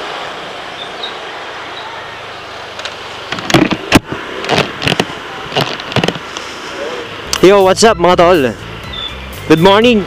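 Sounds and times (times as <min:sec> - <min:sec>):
street background noise: 0:00.0 - 0:10.0.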